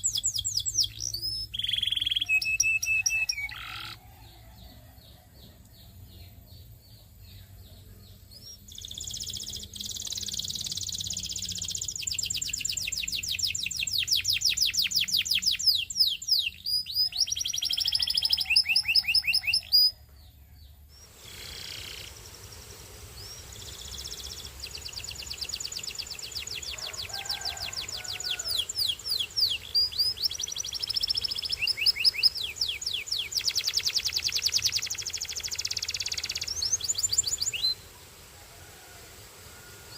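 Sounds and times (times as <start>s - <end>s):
canary trilling song: 0.0s - 5.2s, 5.8s - 37.8s.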